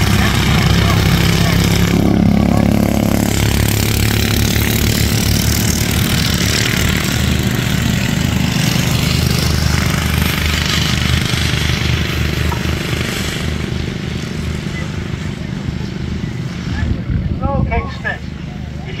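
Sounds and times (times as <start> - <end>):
lawn mower engines droning: 0.0 - 19.0.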